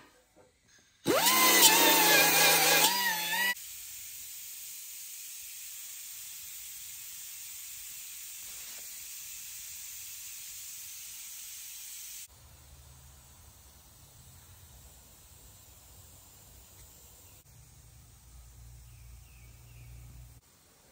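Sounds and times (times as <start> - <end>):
steady hiss: 3.6 - 20.9.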